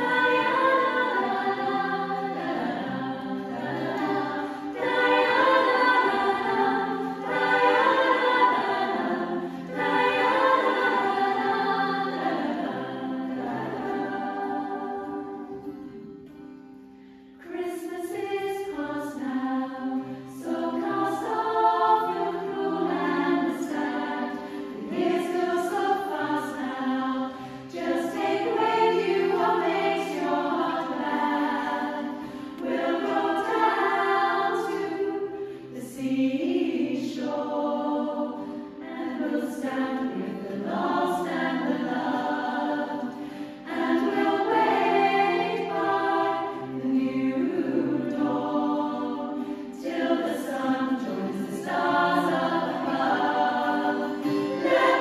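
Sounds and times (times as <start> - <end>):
choir singing in harmony: 0.0 - 16.3, 17.4 - 55.0.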